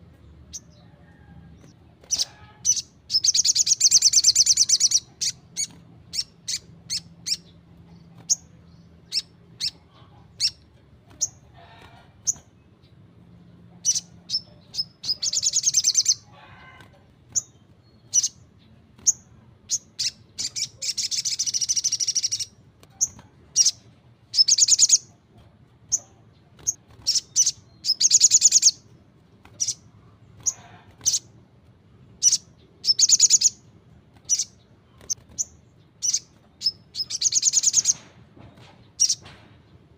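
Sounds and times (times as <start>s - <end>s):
bird chirping and trilling: 2.0s - 12.9s, 13.7s - 16.4s, 17.3s - 25.2s, 25.9s - 31.4s, 32.2s - 38.0s.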